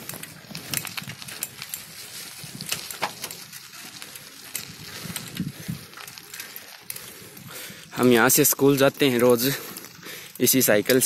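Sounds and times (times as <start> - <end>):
bicycle rattling on gravel: 0.0 - 11.0.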